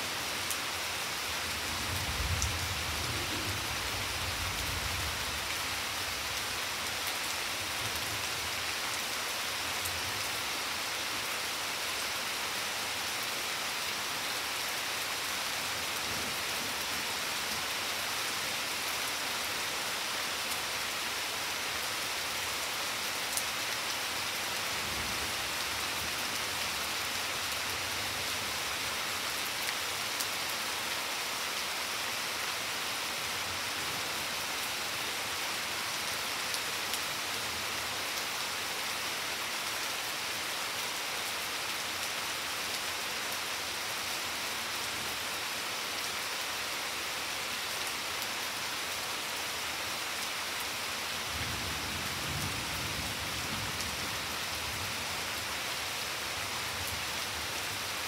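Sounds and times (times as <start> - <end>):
rain falling on plants and paving: 0.0 - 58.0.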